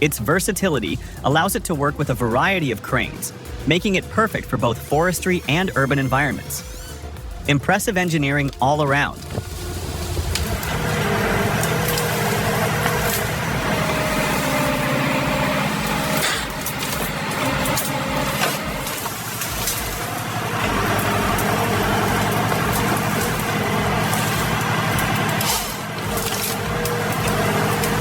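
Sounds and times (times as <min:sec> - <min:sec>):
heavy machine engine running: 0:00.0 - 0:07.7, 0:08.3 - 0:28.0.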